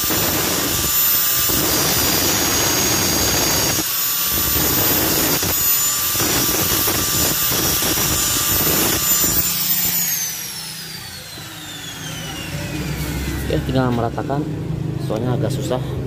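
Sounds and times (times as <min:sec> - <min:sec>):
angle grinder cutting steel: 0:00.0 - 0:14.3.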